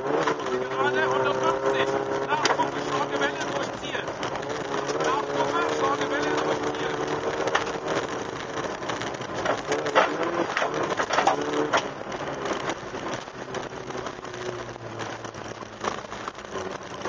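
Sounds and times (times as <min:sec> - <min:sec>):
car engine running low: 0:00.0 - 0:17.0
stones clicking against car: 0:00.0 - 0:17.0
tyres crunching on gravel: 0:00.0 - 0:17.0.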